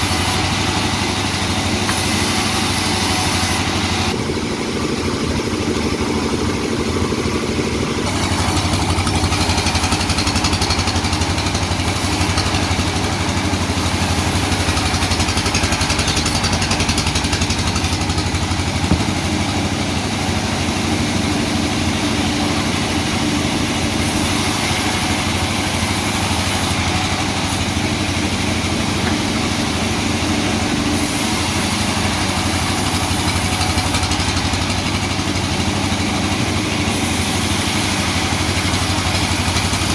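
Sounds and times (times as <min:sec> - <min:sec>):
sawmill machinery engine drone: 0:00.0 - 0:39.9.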